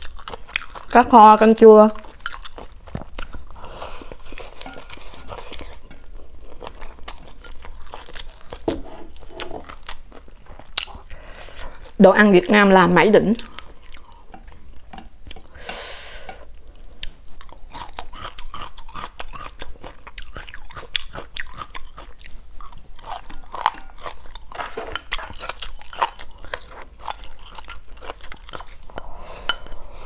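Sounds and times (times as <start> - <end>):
close chewing with wet clicks: 0.0 - 12.0, 13.4 - 15.7, 16.3 - 29.0.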